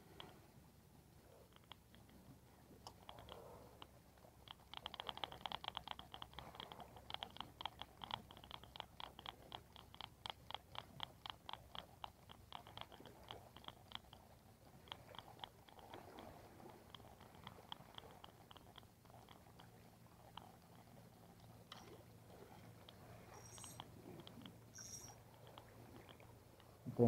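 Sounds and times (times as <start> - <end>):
fishing reel ticking: 1.3 - 27.0.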